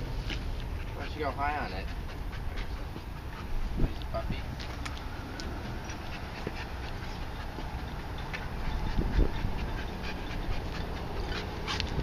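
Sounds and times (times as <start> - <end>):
dog panting and sniffing: 0.0 - 12.0.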